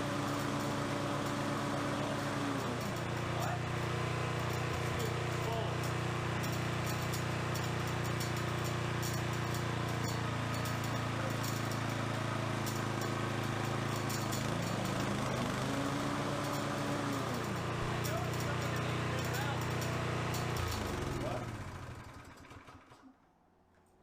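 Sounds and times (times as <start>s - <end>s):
lawn mower engine running: 0.0s - 23.2s.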